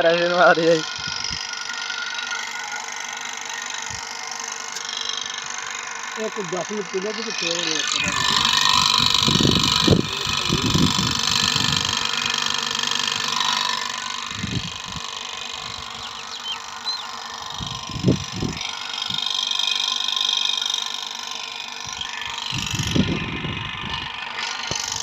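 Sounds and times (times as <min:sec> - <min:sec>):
water pump humming: 0:00.0 - 0:25.0.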